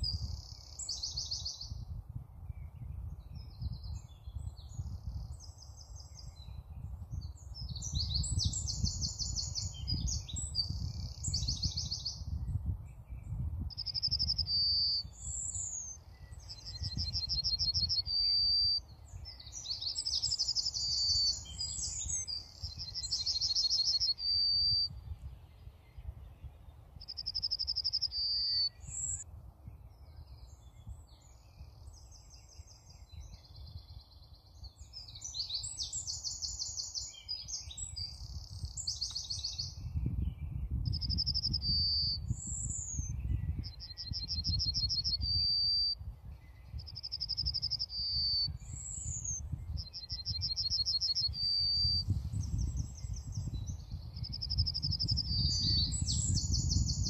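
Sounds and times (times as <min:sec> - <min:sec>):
birds singing fast trills: 0:00.0 - 0:57.0.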